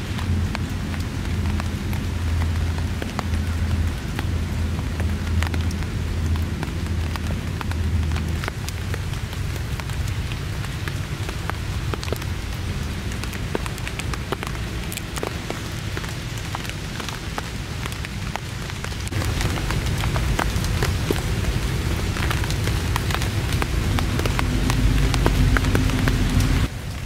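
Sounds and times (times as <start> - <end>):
heavy rain falling: 0.0 - 27.0
raindrops tapping on surface: 0.0 - 27.0.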